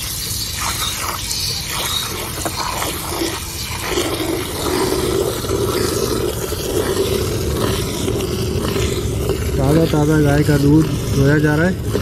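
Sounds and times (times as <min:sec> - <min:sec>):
milk squirting into metal bucket: 0:00.0 - 0:12.0.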